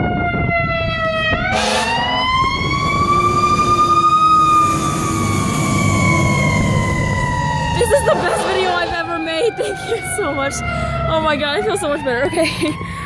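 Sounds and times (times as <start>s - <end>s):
fire truck siren wailing: 0.0s - 13.0s.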